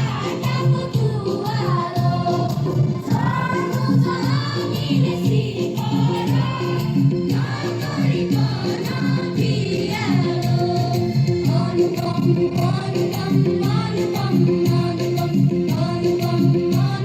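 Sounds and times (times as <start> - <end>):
accompaniment with steady beat: 0.0 - 17.0
group of voices singing: 0.0 - 17.0.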